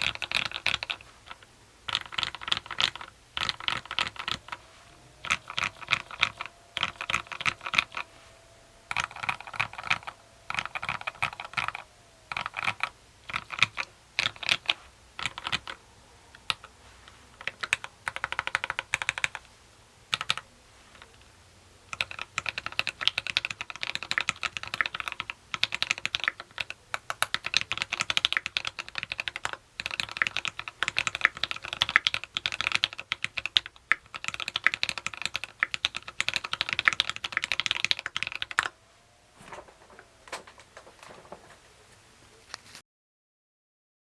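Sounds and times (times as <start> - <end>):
mechanical keyboard typing: 0.0 - 19.5, 20.1 - 21.3, 21.9 - 41.6.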